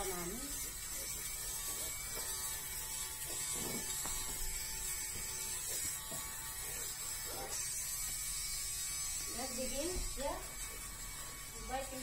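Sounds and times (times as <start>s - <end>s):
electric fabric shaver whining: 0.0s - 12.0s.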